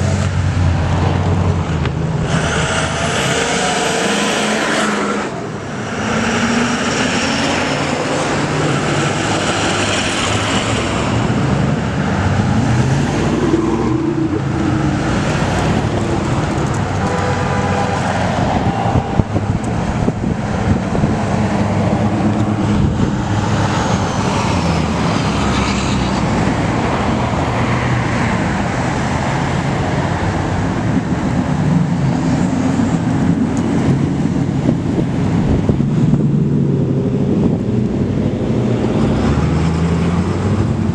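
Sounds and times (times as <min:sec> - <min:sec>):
heavy truck diesel engines: 0:00.0 - 0:40.9
traffic and road noise: 0:00.0 - 0:40.9.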